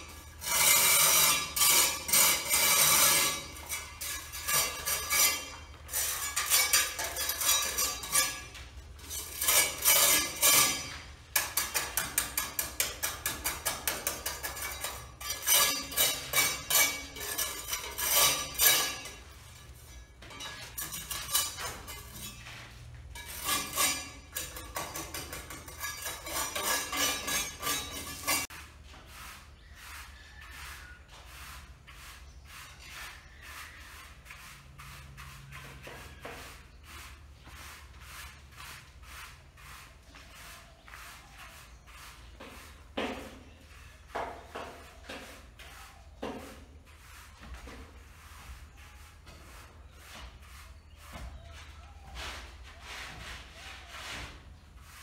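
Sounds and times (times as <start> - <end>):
trowel scraping concrete: 0.0 - 55.0.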